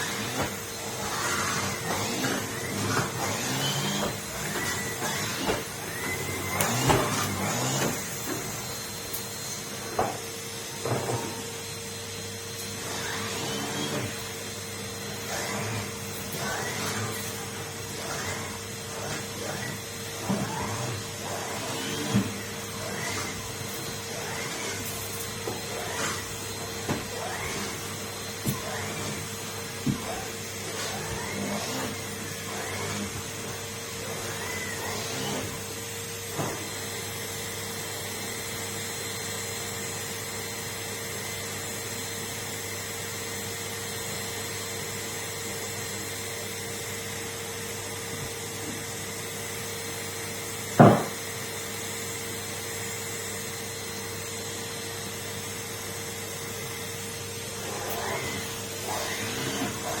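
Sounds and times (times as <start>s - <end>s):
vacuum cleaner humming: 0.0s - 60.0s.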